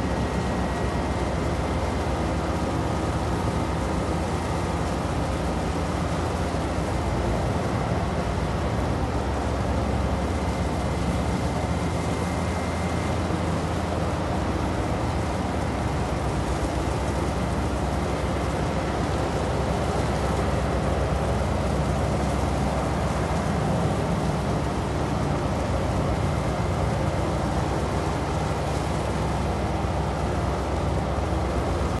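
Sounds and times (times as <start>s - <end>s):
boat engine rumble: 0.0s - 32.0s
water noise: 0.0s - 32.0s.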